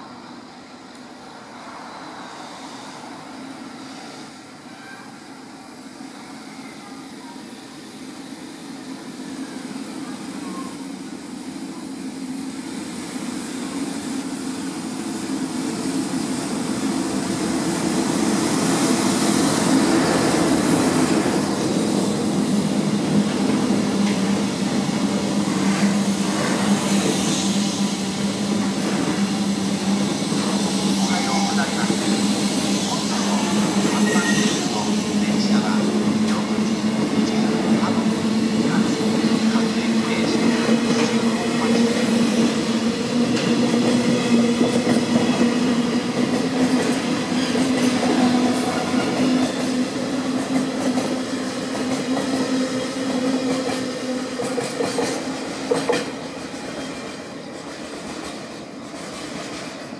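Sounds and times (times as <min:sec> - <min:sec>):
freight train passing: 0:00.0 - 0:59.9
rumble of train wheels: 0:00.0 - 0:59.9.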